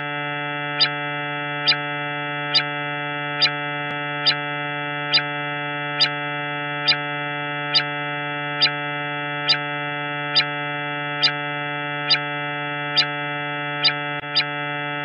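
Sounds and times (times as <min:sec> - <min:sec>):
electronic drone with pulses: 0:00.0 - 0:15.0.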